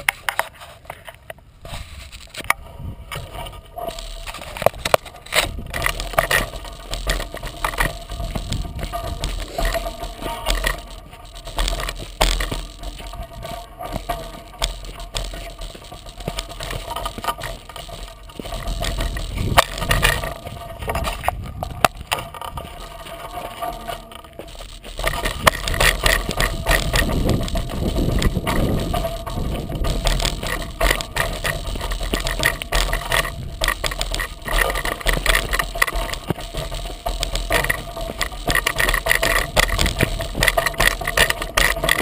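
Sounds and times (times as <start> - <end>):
tyre rattling over rocky trail: 0.0 - 42.0
low wind rumble: 2.5 - 42.0.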